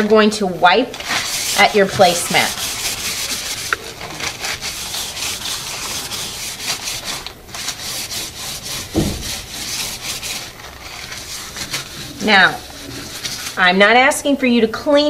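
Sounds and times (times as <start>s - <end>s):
paper towel rubbing placemat: 1.0s - 13.9s.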